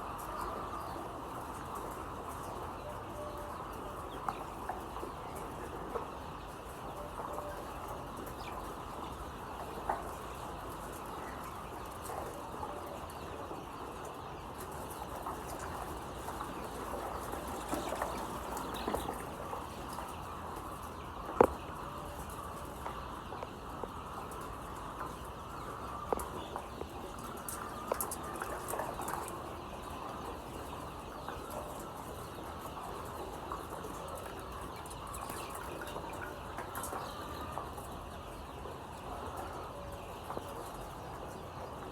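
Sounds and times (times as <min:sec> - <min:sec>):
chickens clucking and chirping: 0:00.0 - 0:41.9.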